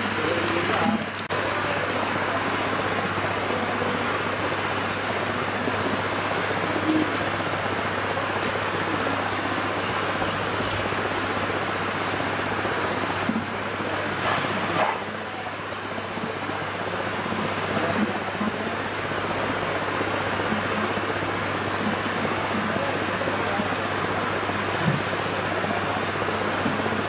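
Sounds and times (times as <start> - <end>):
shallow river running over rocks: 0.0 - 27.0.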